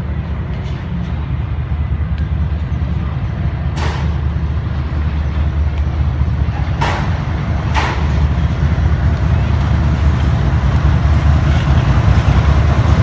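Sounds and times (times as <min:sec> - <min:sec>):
locomotive engine rumble: 0:00.0 - 0:13.0.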